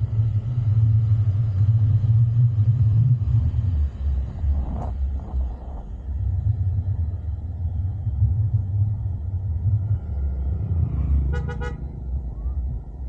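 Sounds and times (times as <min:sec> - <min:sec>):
vehicle rumbling in motion: 0:00.0 - 0:13.0.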